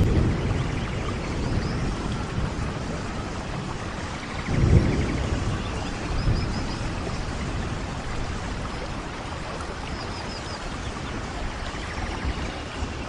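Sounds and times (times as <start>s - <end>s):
heavy rain falling: 0.0s - 13.0s
thunder rumble: 0.0s - 13.0s.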